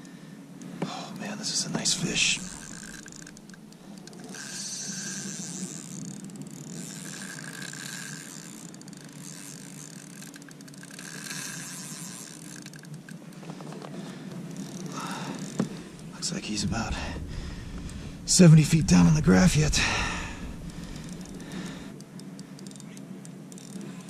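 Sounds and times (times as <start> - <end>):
fishing reel whirring and clicking: 0.0 - 16.6, 19.0 - 24.0.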